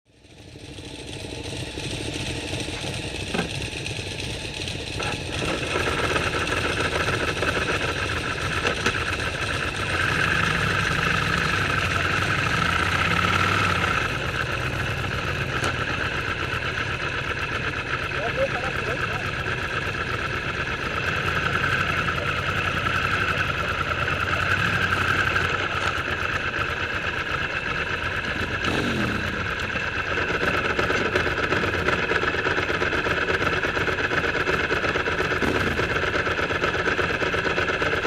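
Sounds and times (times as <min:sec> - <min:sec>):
motorcycle engines running: 0:00.1 - 0:38.0.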